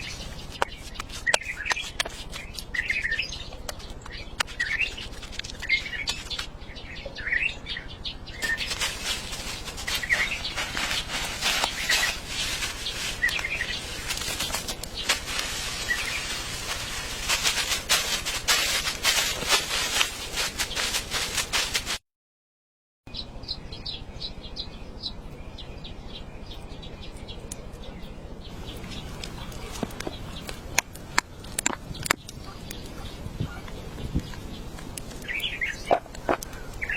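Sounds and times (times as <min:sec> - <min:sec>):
birds chirping: 0:00.0 - 0:21.9, 0:23.1 - 0:36.9.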